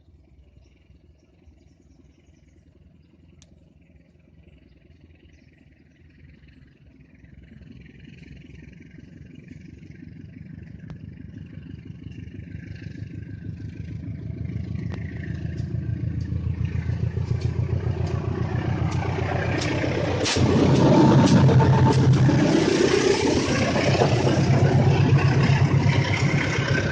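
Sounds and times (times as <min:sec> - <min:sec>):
diesel train engine rumble: 0:00.0 - 0:26.9.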